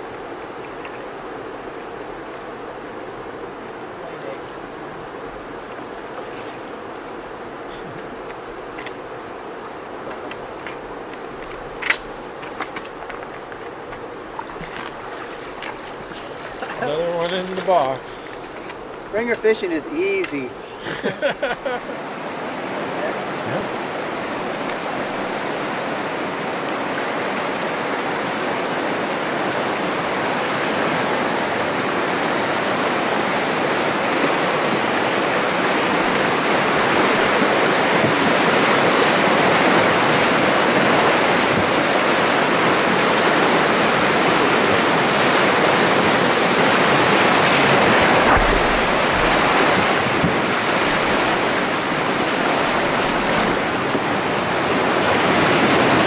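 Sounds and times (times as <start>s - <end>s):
whitewater rapids rushing: 0.0s - 56.0s.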